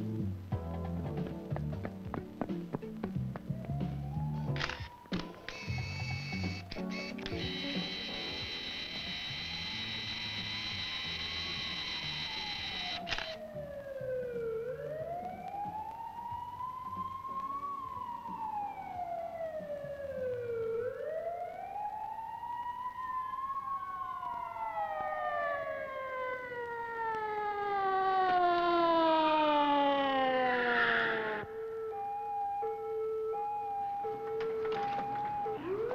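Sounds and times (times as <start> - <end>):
lower falling siren tone: 3.5 - 35.9
siren wailing: 3.5 - 35.9.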